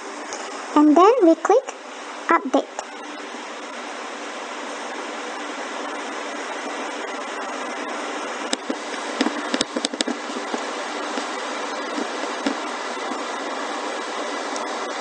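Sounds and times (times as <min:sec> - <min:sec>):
fan-like hiss: 0:00.0 - 0:15.0.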